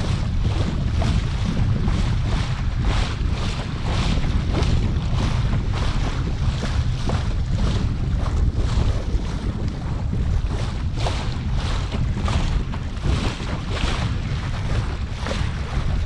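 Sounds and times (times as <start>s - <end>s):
water splashing along hull: 0.0s - 16.0s
wind rumble on microphone: 0.0s - 16.0s.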